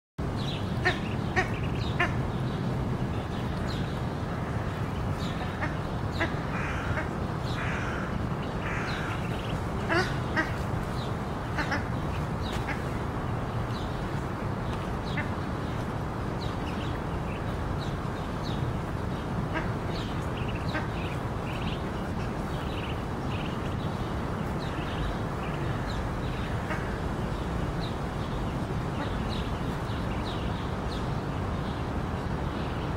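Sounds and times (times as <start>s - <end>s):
ducklings peeping: 0.4s - 31.1s.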